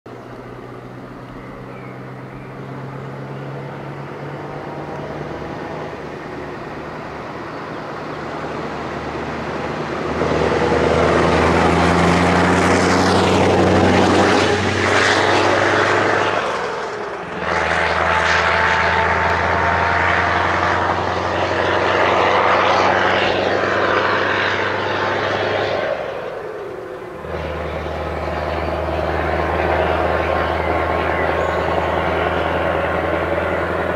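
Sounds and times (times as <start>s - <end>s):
truck engine through open exhaust: 0.1s - 33.9s.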